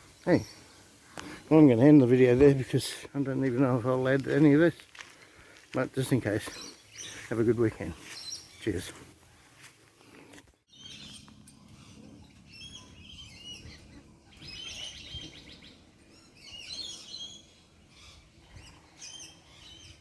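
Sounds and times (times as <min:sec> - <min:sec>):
birds chirping and twittering: 0:00.0 - 0:20.0.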